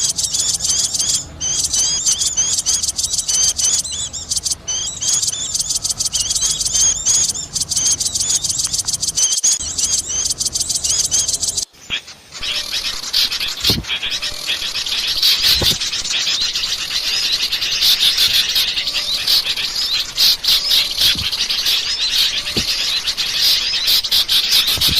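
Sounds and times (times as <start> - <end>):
bird chattering: 0.0 - 24.9
small birds chirping: 0.0 - 24.9.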